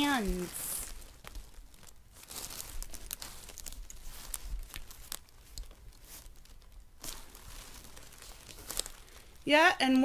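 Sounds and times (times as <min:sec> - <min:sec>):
packing material crinkling: 0:00.0 - 0:10.0.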